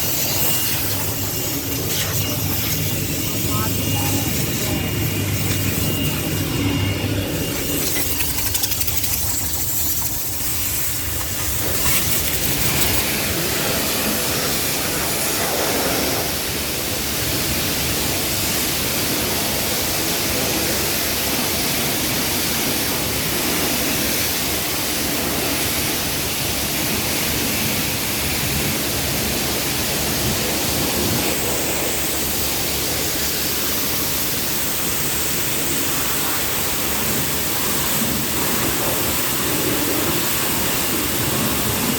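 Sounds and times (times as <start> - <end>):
water spraying over a car: 0.0 - 41.9.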